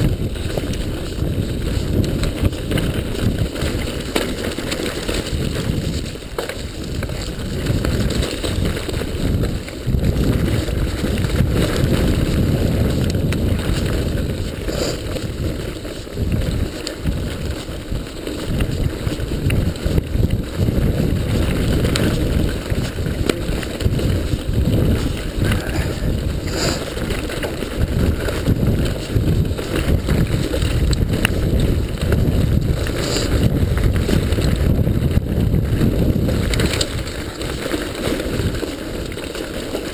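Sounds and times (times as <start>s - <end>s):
bike knocking over rocks: 0.0s - 39.9s
bike tyres rumbling on dirt: 0.0s - 39.9s
wind buffeting microphone: 0.0s - 39.9s.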